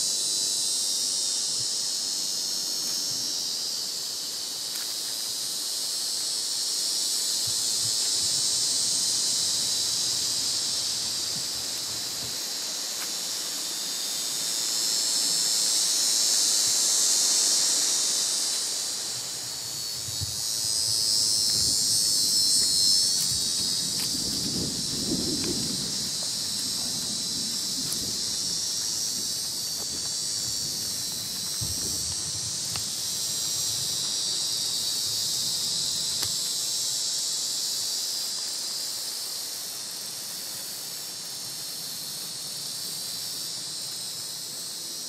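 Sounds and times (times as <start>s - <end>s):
insects buzzing: 0.0s - 45.0s.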